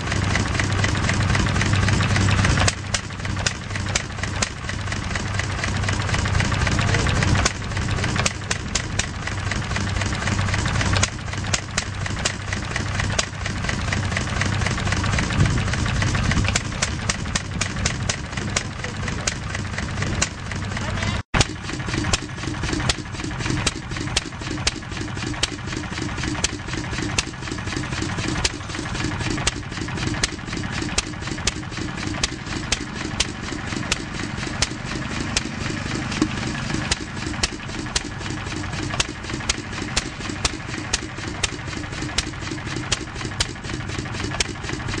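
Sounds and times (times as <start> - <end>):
gas engine exhaust pops: 0.1 - 6.2, 6.9 - 20.7, 21.4 - 45.0.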